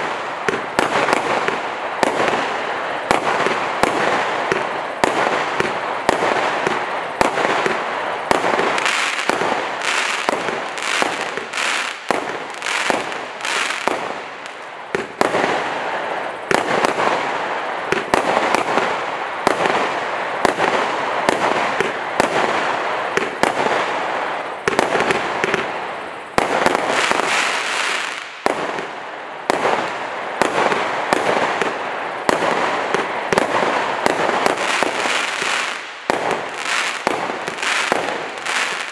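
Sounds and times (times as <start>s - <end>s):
firework shots firing: 0.0s - 15.8s, 16.5s - 24.0s, 24.6s - 25.7s, 26.4s - 28.9s, 29.5s - 38.9s.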